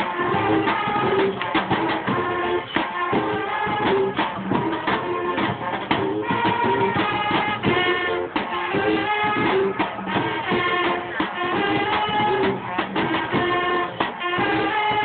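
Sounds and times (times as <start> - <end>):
held melodic notes: 0.0 - 15.0.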